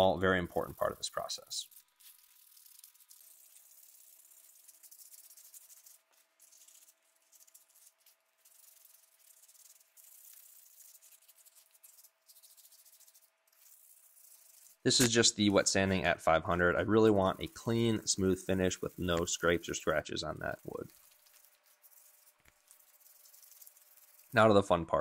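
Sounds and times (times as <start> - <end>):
sandpaper rubbing on wood: 0.0 - 24.5.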